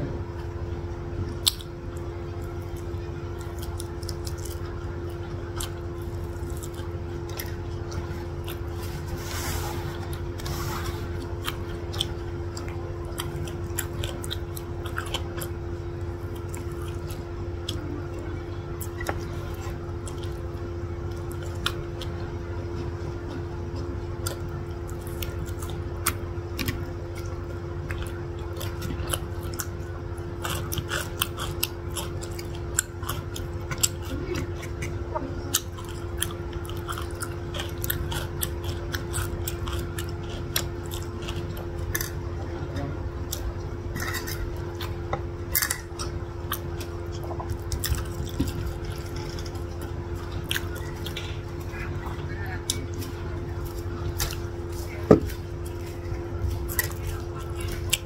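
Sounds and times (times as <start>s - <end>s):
steady low hum: 0.0s - 58.0s
close chewing and biting: 1.3s - 42.4s, 43.2s - 58.0s.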